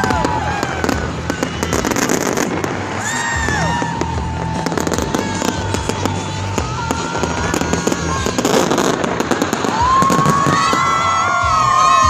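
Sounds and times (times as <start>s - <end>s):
fireworks popping and banging: 0.0s - 11.8s
background music: 0.0s - 12.0s
fireworks whistling: 0.0s - 12.0s.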